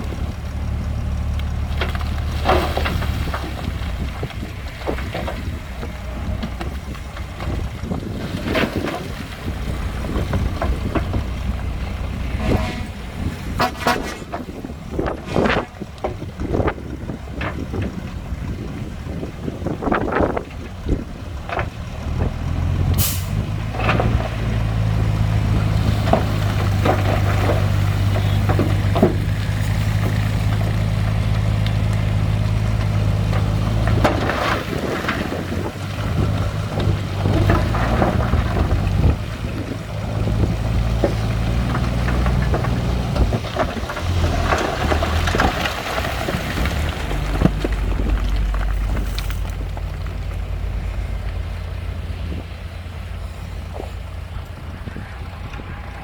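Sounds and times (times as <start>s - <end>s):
diesel construction machinery running: 0.0s - 56.0s.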